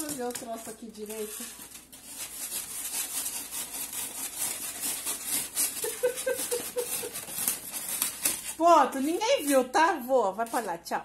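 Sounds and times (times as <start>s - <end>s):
styrofoam squeaking: 0.0s - 9.8s
knife cutting styrofoam: 0.0s - 10.7s.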